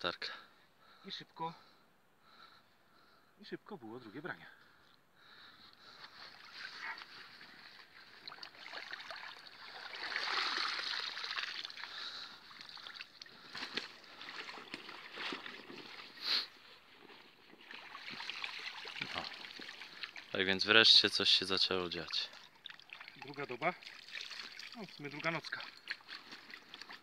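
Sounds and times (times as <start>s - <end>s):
water splashing and sloshing: 5.2s - 27.0s.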